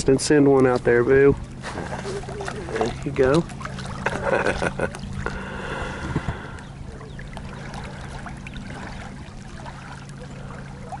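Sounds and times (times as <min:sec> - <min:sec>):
steady low hum: 0:00.0 - 0:11.0
small waves lapping: 0:00.6 - 0:11.0.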